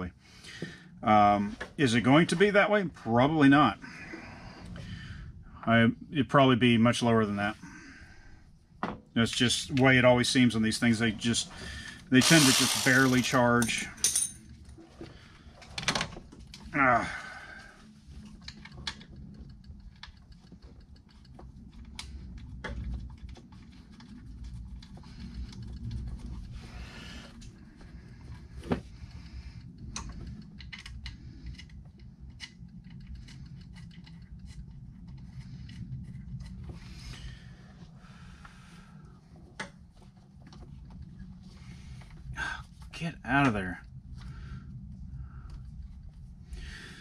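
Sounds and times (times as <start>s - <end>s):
low hum: 0.0s - 47.0s.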